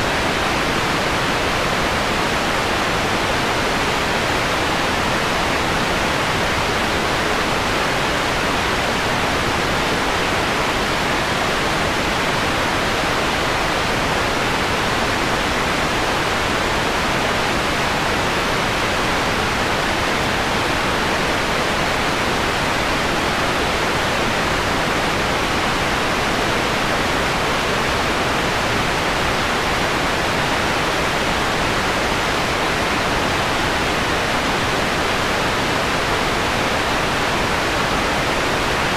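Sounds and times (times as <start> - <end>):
filtered white noise hiss: 0.0 - 38.9.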